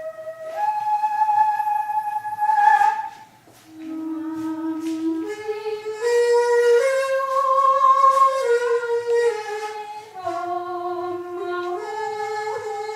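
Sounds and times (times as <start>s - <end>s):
bamboo flute long notes: 0.0s - 12.9s.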